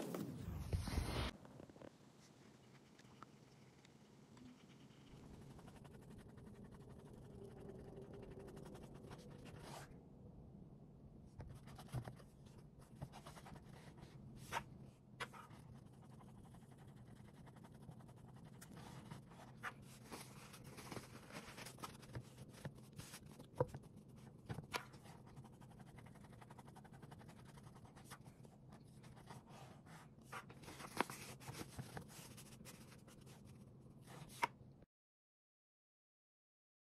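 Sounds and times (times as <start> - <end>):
low steady hum: 0.0 - 34.1.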